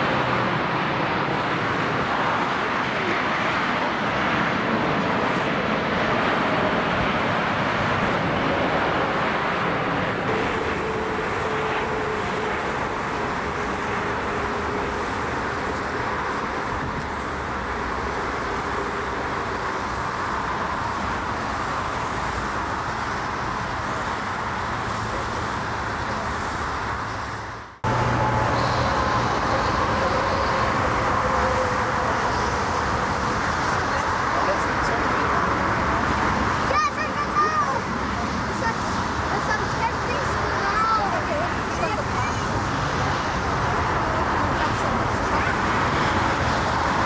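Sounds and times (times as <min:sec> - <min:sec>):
jet engine noise: 0:00.0 - 0:47.0
motorway traffic noise: 0:00.0 - 0:47.0.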